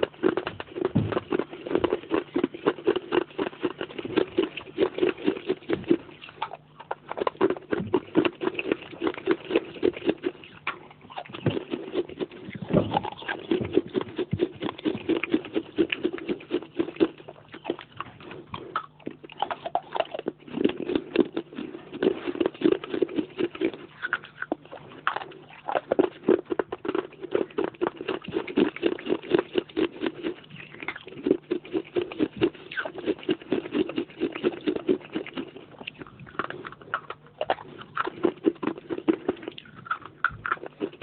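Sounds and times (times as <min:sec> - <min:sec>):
crunchy chewing: 0:00.0 - 0:41.0.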